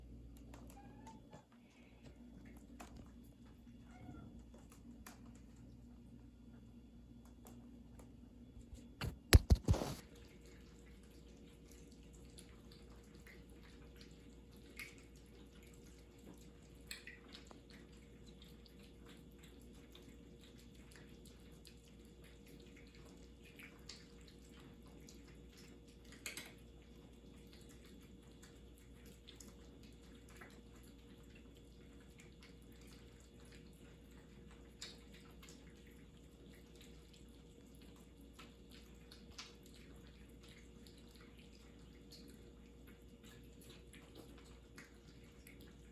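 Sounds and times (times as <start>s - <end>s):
cats chewing: 0.0s - 45.9s.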